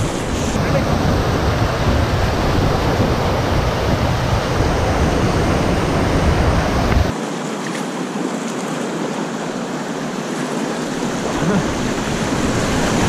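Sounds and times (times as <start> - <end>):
moving river water: 0.0 - 13.0
whitewater rushing over rocks: 0.0 - 13.0.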